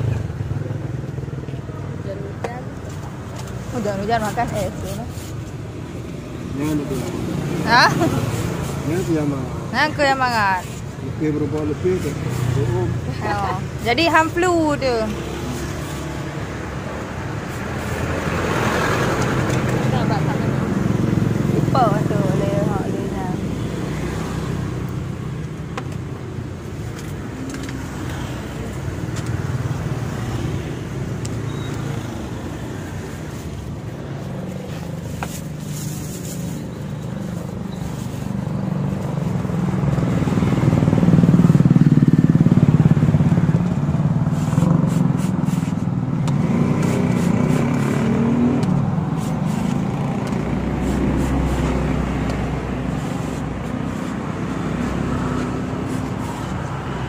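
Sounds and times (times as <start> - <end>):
motorcycles and cars passing: 0.0 - 57.0.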